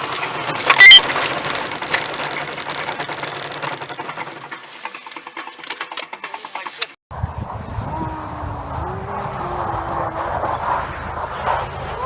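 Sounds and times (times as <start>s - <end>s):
crackling noise: 0.0s - 5.2s, 6.2s - 12.0s.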